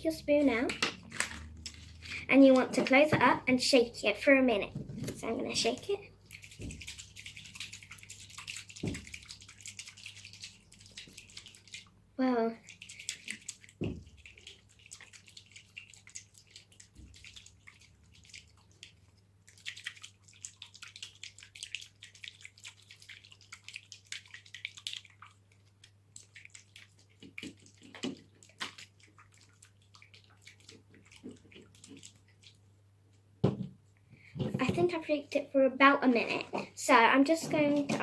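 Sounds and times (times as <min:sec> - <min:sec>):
water sloshing in plastic container: 0:00.3 - 0:32.7, 0:36.2 - 0:38.0.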